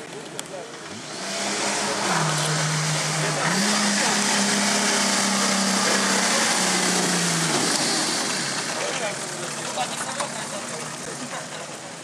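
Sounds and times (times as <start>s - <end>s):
vehicle engine under load: 0.0s - 12.0s.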